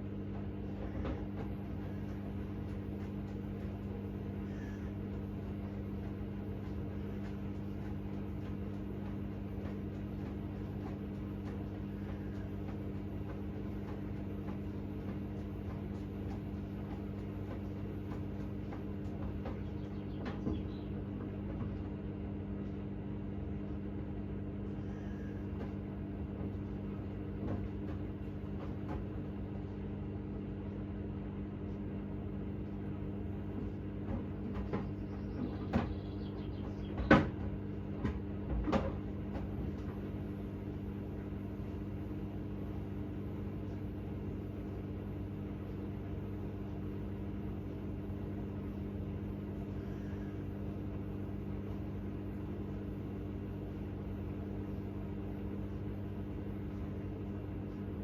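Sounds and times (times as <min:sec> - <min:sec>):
washing machine humming: 0:00.0 - 0:58.0.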